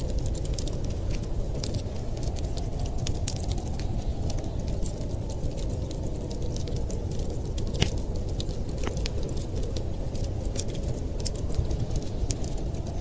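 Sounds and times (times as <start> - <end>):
loud fire snaps: 0.0 - 13.0
steady low rumble: 0.0 - 13.0
wood fire crackling and popping: 0.0 - 13.0.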